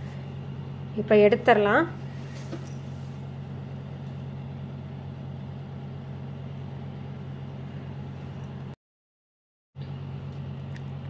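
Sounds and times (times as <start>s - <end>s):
low mechanical hum: 0.0s - 8.8s, 9.8s - 11.0s.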